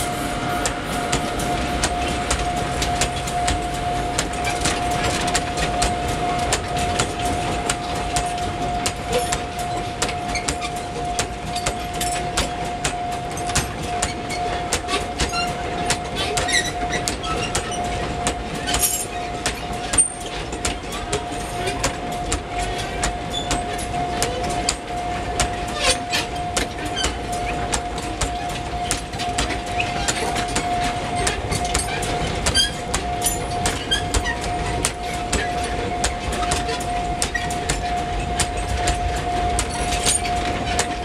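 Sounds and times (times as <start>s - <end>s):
steady high tone: 0.0s - 16.2s, 21.0s - 41.0s
train wheels clicking over rail joints: 0.0s - 41.0s.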